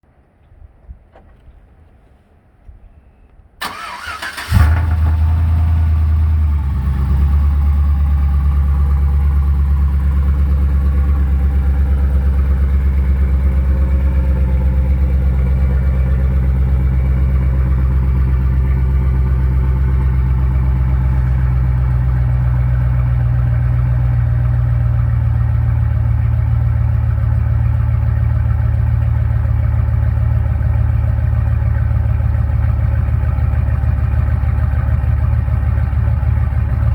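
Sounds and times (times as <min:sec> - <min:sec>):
engine idling loud: 0:03.6 - 0:36.9.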